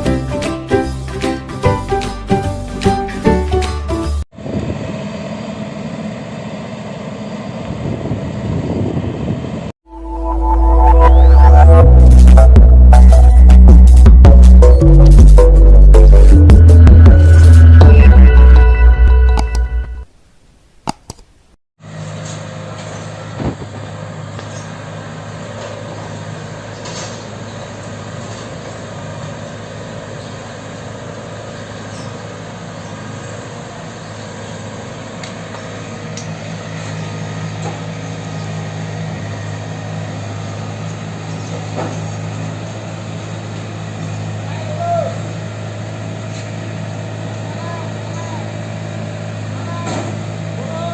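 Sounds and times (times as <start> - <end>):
combine harvester humming: 0.0 - 19.9, 21.8 - 50.9.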